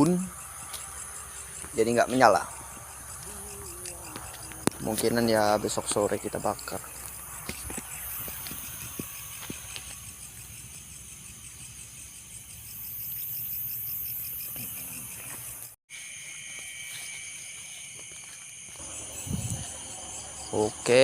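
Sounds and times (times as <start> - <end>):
night insects chirping: 0.0 - 21.0.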